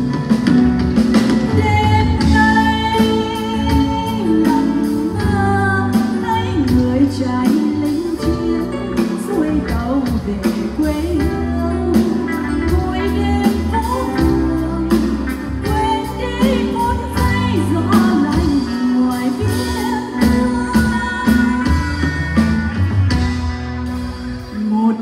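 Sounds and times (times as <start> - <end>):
bass: 0.0 - 25.0.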